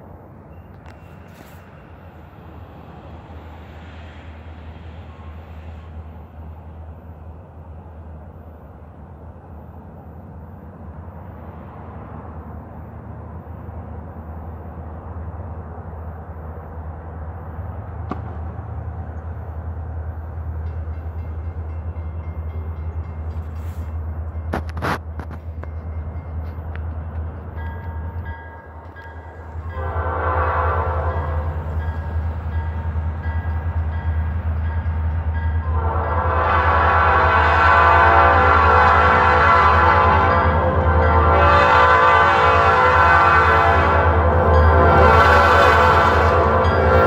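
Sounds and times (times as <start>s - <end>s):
diesel locomotive rumble: 0.0s - 47.0s.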